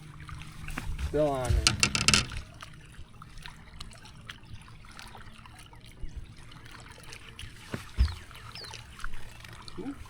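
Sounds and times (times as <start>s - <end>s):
small ticks and splashes: 0.0s - 10.0s
water trickling and lapping: 0.0s - 10.0s.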